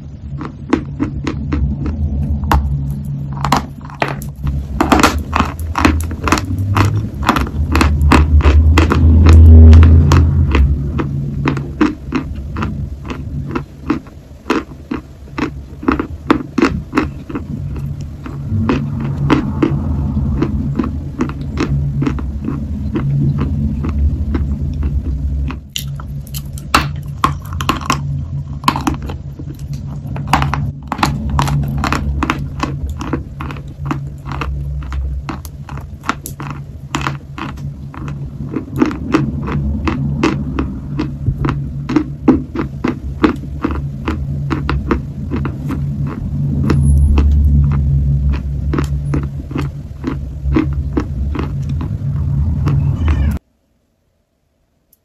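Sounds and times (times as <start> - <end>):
low steady hum: 0.0 - 55.0
chalk being chewed: 0.4 - 52.8.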